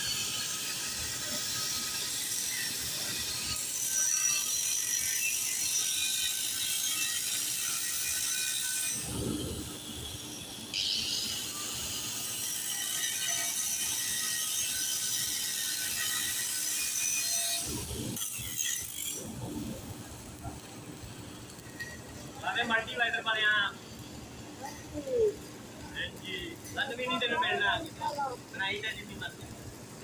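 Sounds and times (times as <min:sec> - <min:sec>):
arc welding crackle: 0:00.0 - 0:30.0.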